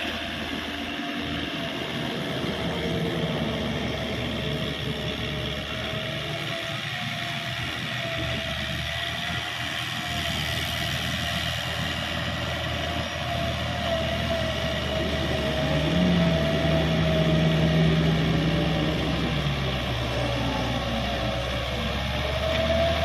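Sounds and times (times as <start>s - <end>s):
steady mechanical whine: 0.0s - 23.0s
tractor diesel engine running: 0.0s - 23.0s.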